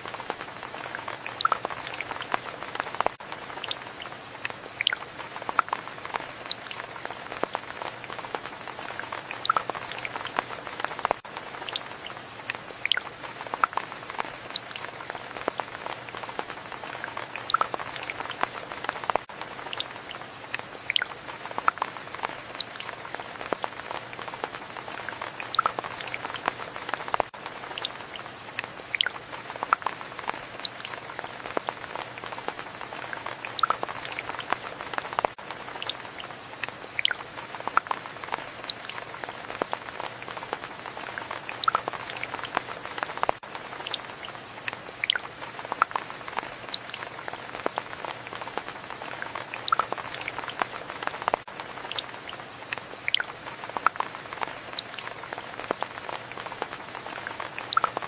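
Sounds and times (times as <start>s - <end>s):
rain drops pattering: 0.0s - 58.0s.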